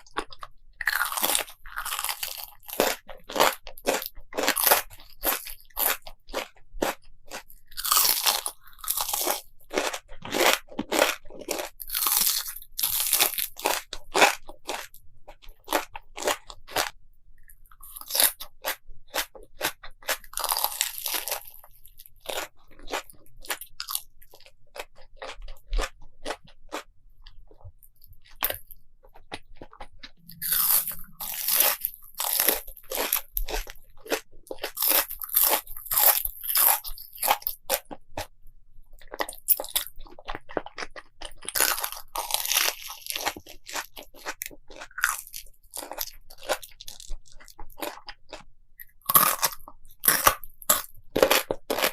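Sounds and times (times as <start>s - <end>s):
crunchy chewing of crisp food: 0.0s - 51.9s.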